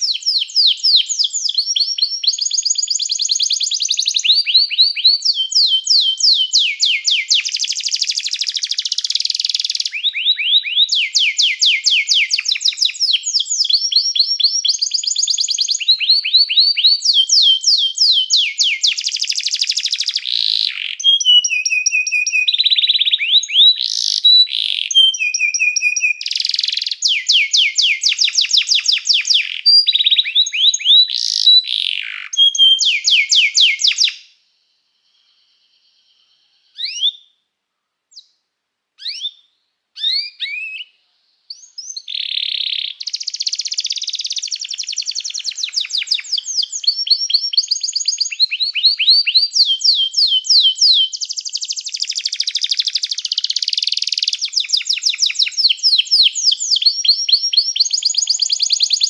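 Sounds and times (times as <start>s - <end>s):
canary trilling: 0.0s - 34.2s, 36.7s - 37.3s, 39.0s - 40.9s, 41.5s - 59.0s
canary chirps: 0.0s - 34.4s, 35.1s - 37.4s, 39.0s - 59.0s.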